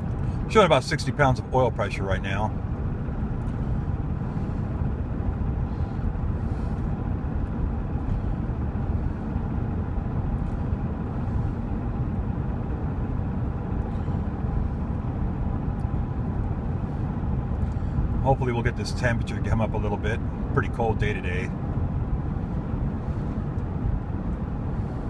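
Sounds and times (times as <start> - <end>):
engine and road noise in cab: 0.0 - 25.0.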